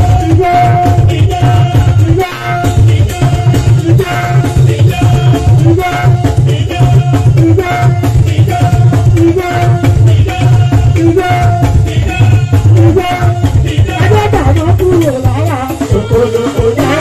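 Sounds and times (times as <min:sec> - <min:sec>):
heavy drum beat: 0:00.0 - 0:17.0
live band music: 0:00.0 - 0:17.0.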